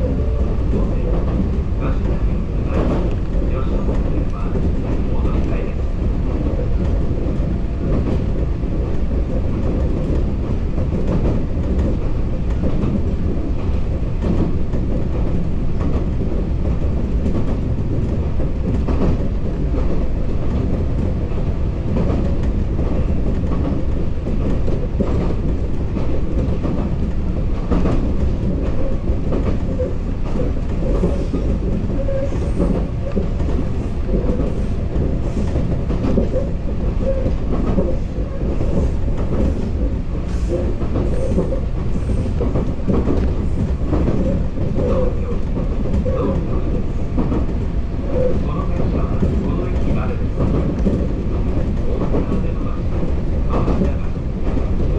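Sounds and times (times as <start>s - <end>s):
electric train rumble: 0.0s - 54.9s
wheels clacking over rail joints: 0.1s - 54.9s.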